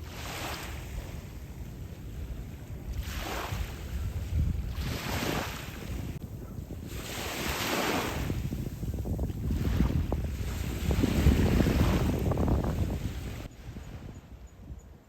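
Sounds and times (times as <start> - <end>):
small waves washing onto beach: 0.0 - 13.6
wind buffeting microphone: 0.0 - 15.0.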